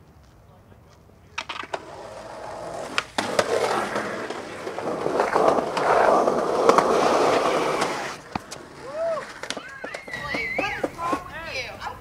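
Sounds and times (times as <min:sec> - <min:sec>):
skateboard wheels rolling on concrete: 0:00.0 - 0:12.0
skateboard clacks: 0:01.3 - 0:11.5.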